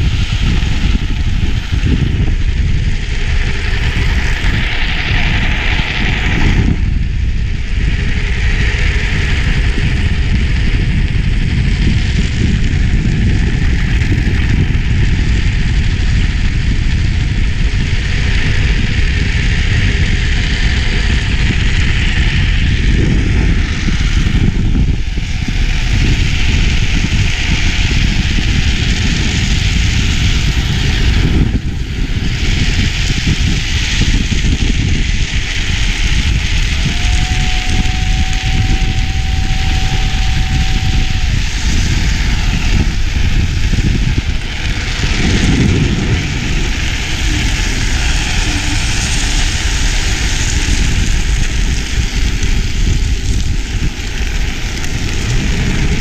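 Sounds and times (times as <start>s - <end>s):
hard wheels rolling on asphalt: 0.0s - 56.0s
wheels scraping sideways: 0.0s - 56.0s
wind buffeting microphone: 0.0s - 56.0s.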